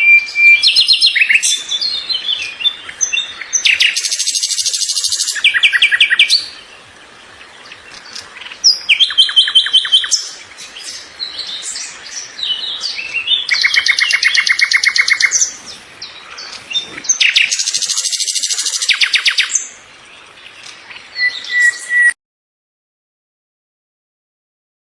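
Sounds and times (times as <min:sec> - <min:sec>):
songbird trilling: 0:00.0 - 0:06.8, 0:07.4 - 0:22.2
bird chirps: 0:00.0 - 0:22.2.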